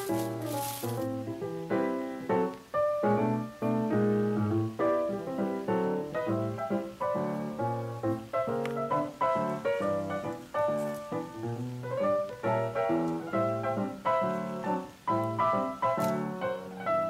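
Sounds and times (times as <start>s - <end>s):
light piano tune: 0.0s - 17.0s.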